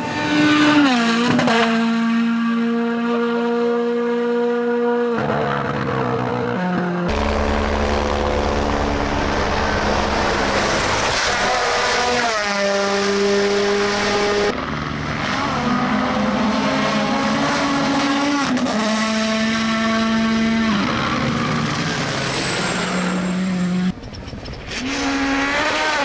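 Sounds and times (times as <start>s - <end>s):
rally car engines at high revs: 0.0s - 26.0s.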